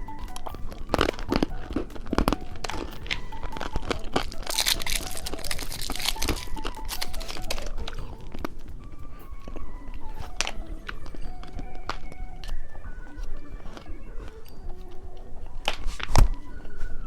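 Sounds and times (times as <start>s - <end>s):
candy crunching: 0.0s - 17.0s
candy wrappers crinkling: 0.0s - 17.0s
soft background music: 0.0s - 17.0s.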